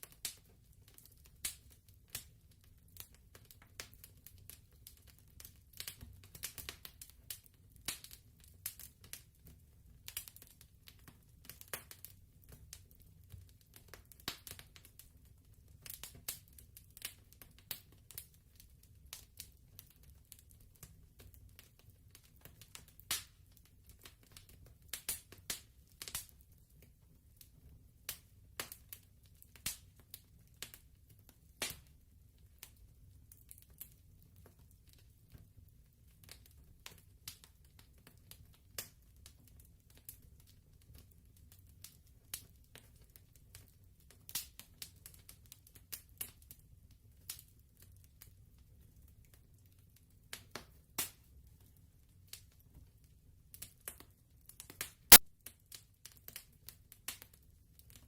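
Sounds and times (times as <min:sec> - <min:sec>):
wood fire popping and snapping: 0:00.0 - 0:49.7, 0:50.3 - 0:58.0.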